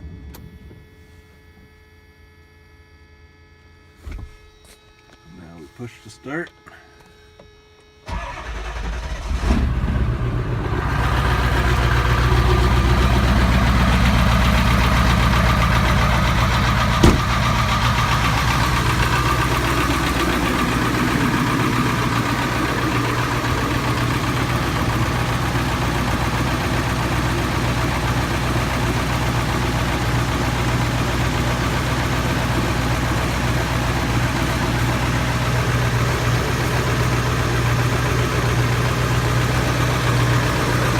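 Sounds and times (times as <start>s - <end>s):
diesel engine idling: 8.1s - 40.9s.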